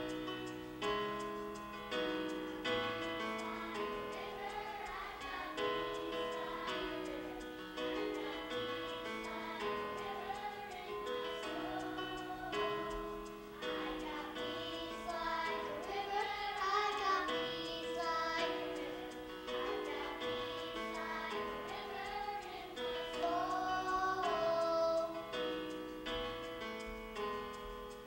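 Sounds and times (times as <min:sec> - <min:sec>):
children's choir singing: 0:00.0 - 0:27.3
instrumental accompaniment held notes: 0:00.0 - 0:28.0.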